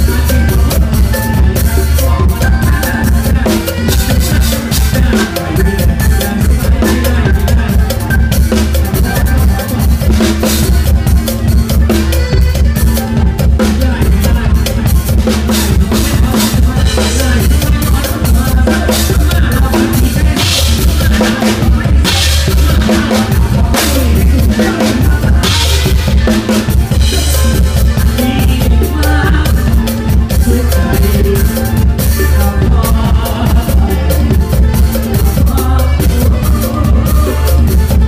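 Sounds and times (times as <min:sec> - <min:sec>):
band with bass: 0:00.0 - 0:38.0
drum kit playing fast beat: 0:00.0 - 0:38.0.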